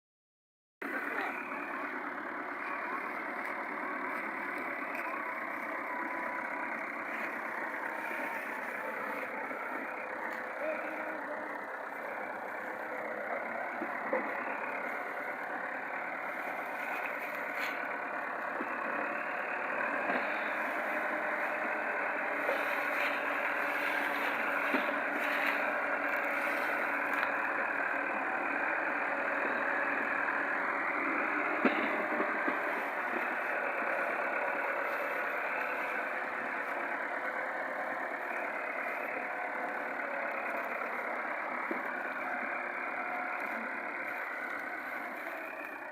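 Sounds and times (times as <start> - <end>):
tractor engine running: 0.8 - 45.9.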